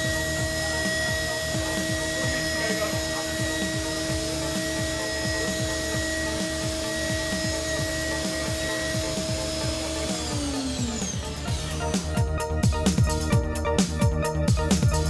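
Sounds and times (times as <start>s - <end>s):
milling machine cutting metal: 0.0s - 13.3s
spindle whine: 0.0s - 13.4s
electronic music with kick drum: 0.0s - 15.0s.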